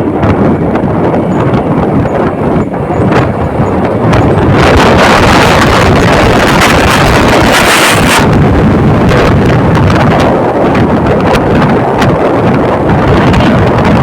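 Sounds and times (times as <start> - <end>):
low rumble: 0.0 - 14.0
wind buffeting microphone: 0.0 - 14.0.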